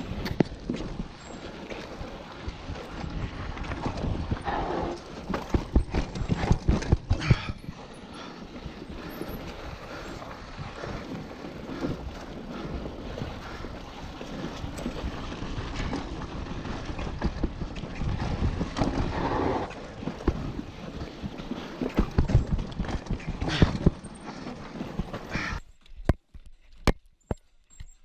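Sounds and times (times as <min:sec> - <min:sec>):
bike rattling: 0:00.0 - 0:28.0.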